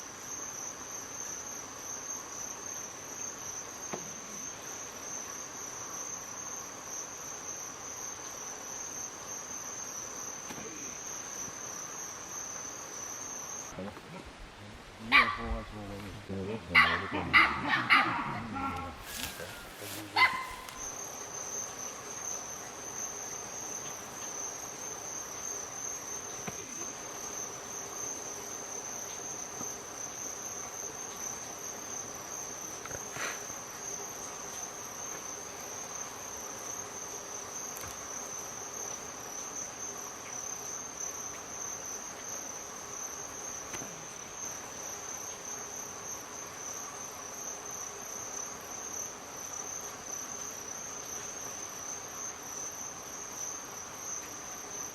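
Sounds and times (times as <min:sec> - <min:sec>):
high-pitched insect chorus trilling: 0:00.0 - 0:54.9.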